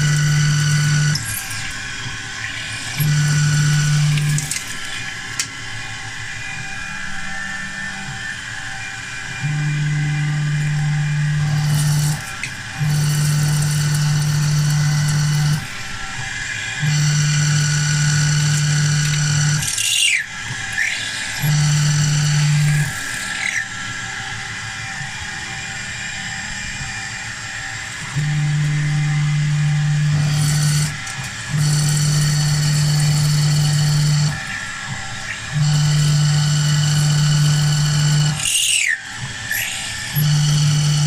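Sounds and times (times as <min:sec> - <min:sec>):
stepper motors whining: 0:00.0 - 0:41.0.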